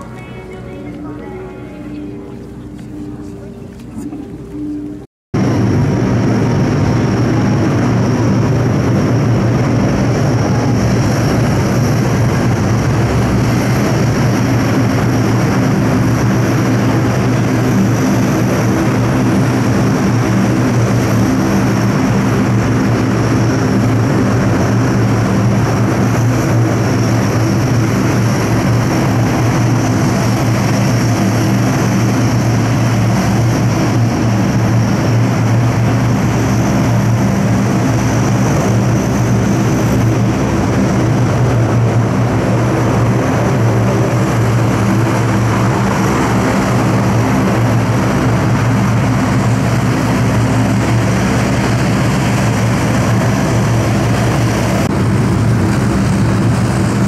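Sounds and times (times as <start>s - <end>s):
high turbine whine: 0.0s - 57.0s
turboprop engines droning: 0.0s - 57.0s.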